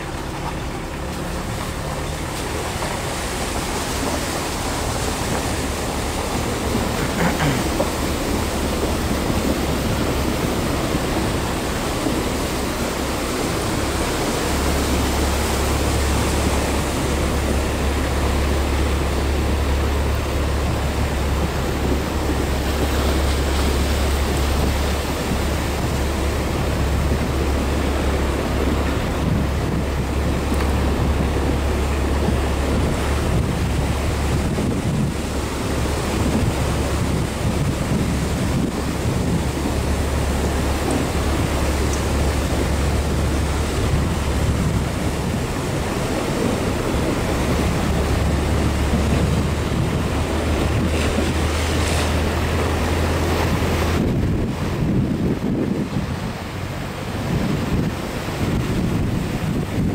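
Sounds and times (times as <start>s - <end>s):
low engine drone: 0.0s - 59.9s
water rushing around wheels: 0.0s - 59.9s.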